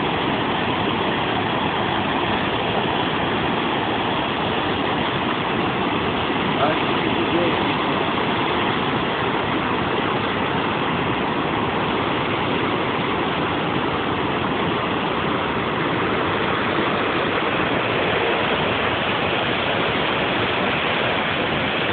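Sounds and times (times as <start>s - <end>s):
waterfall roaring: 0.0s - 21.9s.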